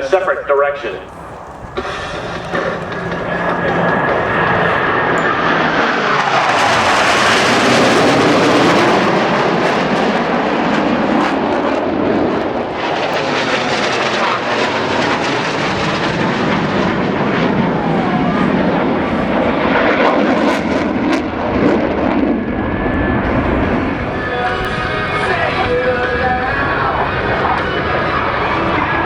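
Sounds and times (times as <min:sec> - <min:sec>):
jets flying past: 0:00.0 - 0:29.0.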